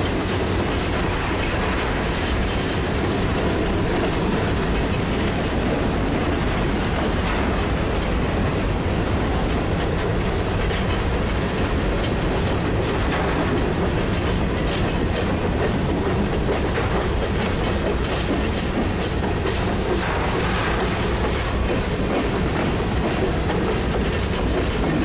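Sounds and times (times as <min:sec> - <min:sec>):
clickety-clack over rail joints: 0:00.0 - 0:25.0
train wheels rumbling on rail: 0:00.0 - 0:25.0.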